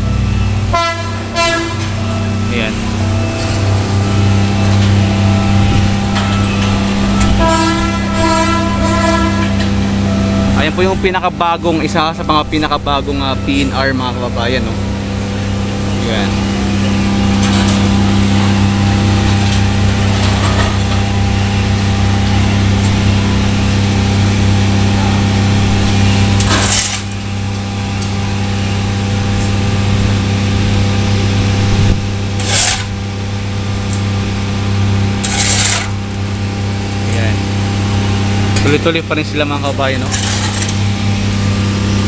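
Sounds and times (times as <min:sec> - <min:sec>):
low engine hum: 0:00.0 - 0:42.0.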